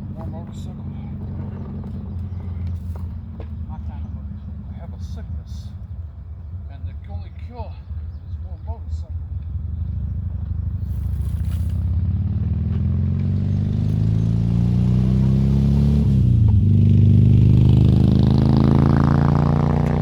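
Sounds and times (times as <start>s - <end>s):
motorcycle engine accelerating: 0.0s - 7.0s, 9.2s - 20.0s.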